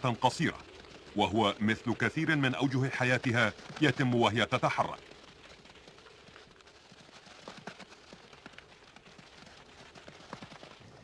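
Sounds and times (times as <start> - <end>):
hooves tapping on dry ground: 0.0 - 11.0.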